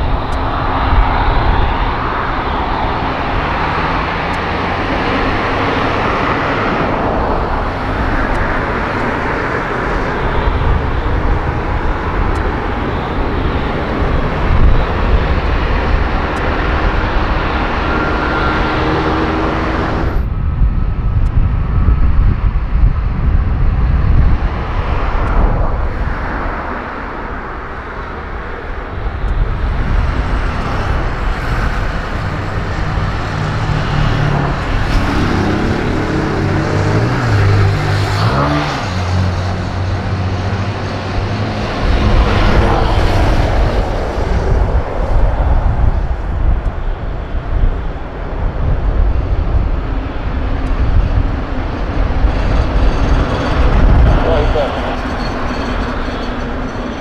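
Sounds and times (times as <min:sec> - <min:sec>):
jet engines roaring: 0:00.0 - 0:57.0
low droning tones: 0:00.0 - 0:57.0.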